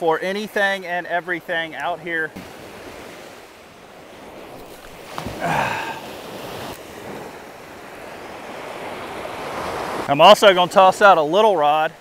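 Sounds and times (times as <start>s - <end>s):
surf waves washing onto beach: 0.0s - 12.0s.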